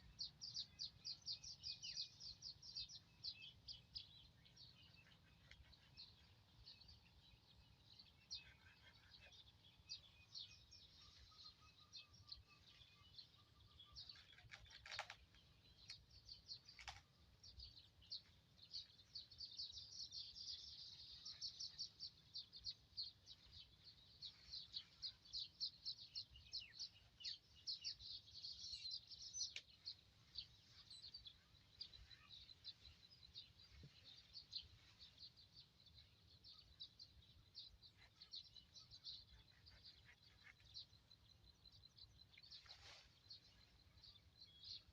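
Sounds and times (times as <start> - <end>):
faint birds chirping: 0.0 - 44.9.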